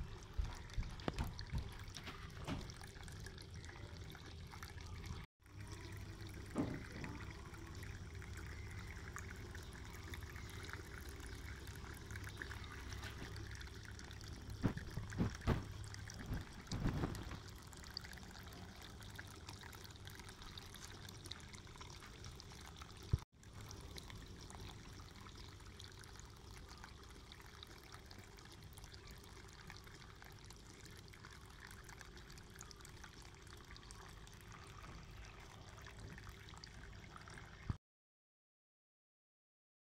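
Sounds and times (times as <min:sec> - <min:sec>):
water trickling from fountain: 0:00.0 - 0:37.8.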